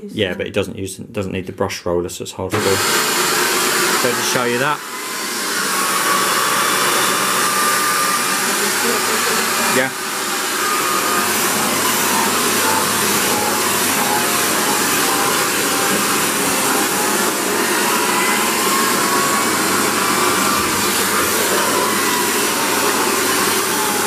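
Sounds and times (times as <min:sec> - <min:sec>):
vacuum cleaner rushing hiss: 0:02.5 - 0:24.0.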